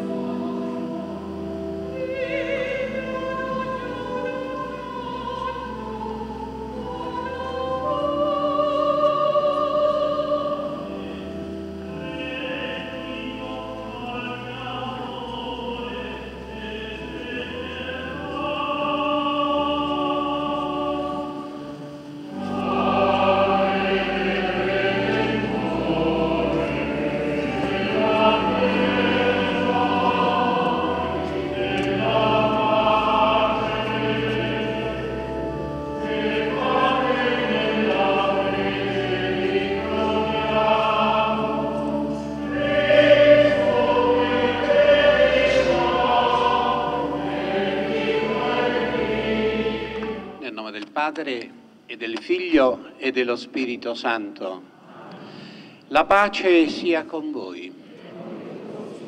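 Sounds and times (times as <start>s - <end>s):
choir singing a hymn: 0.0s - 51.8s, 53.1s - 59.0s.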